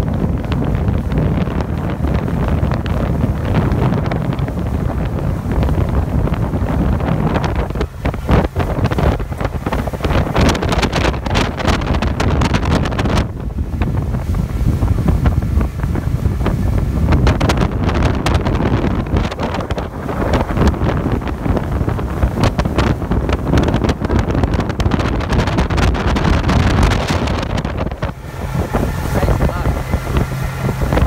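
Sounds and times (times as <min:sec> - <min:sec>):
motorboat motor: 0:00.0 - 0:31.0
wind buffeting microphone: 0:00.0 - 0:31.0.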